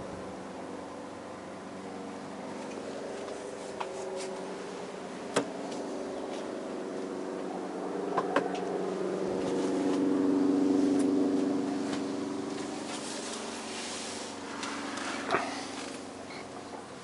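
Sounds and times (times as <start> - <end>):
helicopter flying over: 0.0 - 17.0.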